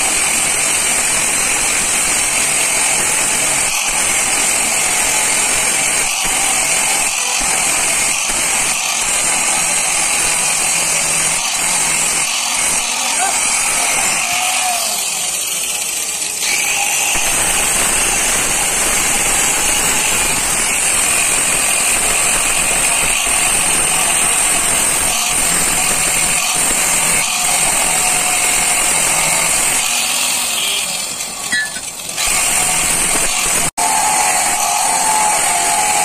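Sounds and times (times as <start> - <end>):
angle grinder cutting steel: 0.0 - 36.0.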